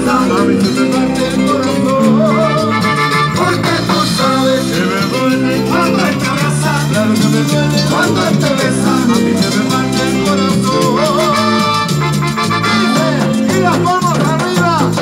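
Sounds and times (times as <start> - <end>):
conga drum: 0.0 - 15.0
latin band playing: 0.0 - 15.0
man singing into a microphone: 0.0 - 15.0
repeating bass line: 0.0 - 15.0.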